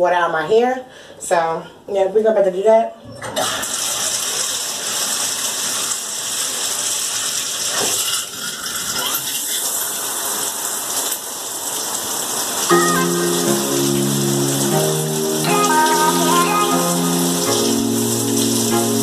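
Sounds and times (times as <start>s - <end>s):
bathtub tap water gushing: 3.2s - 19.0s.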